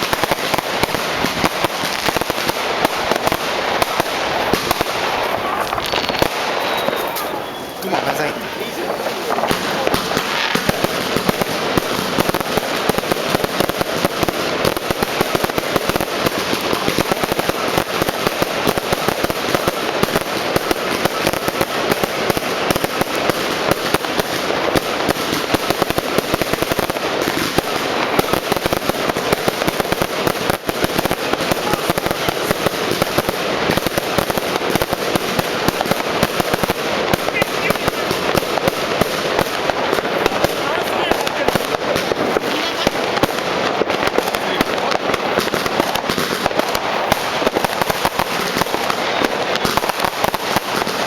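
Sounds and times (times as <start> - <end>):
fireworks and firecrackers crackling: 0.0 - 51.0.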